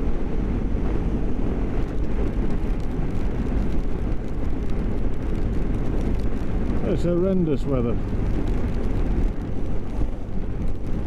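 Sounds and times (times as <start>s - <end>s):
motorcycle engine rumble: 0.0s - 11.0s
wet road noise: 0.0s - 11.0s.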